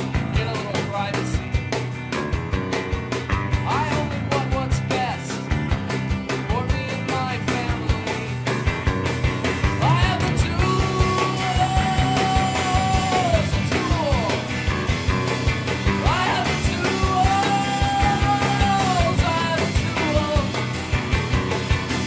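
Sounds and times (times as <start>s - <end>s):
guitars: 0.0s - 22.0s
rock song: 0.0s - 22.0s
steady drum beat: 0.0s - 22.0s.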